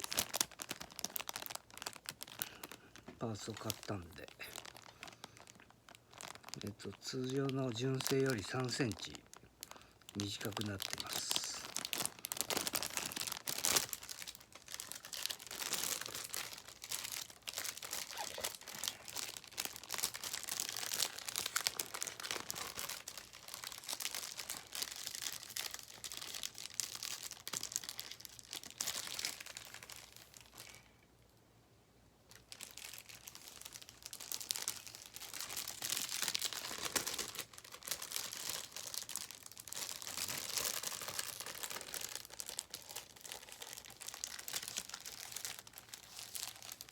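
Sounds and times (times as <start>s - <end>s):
packaging crinkling and rustling: 0.0s - 30.9s, 32.3s - 46.9s.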